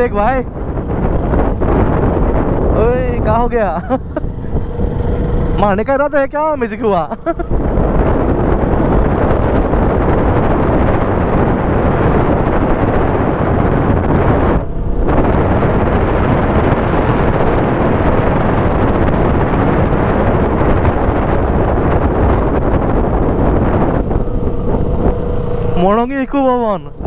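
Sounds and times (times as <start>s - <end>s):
motorcycle running: 0.0s - 27.0s
road noise: 0.0s - 27.0s
wind rushing over microphone: 0.0s - 27.0s.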